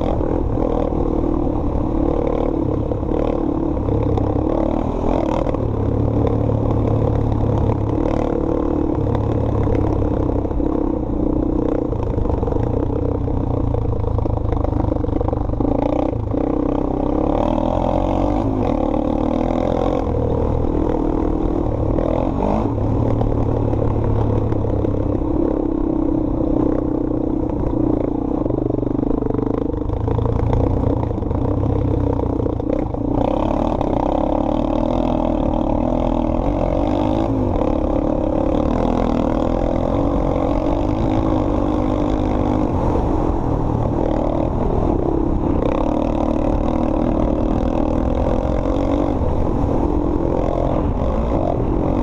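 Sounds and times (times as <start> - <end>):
quad engine revving: 0.0 - 52.0.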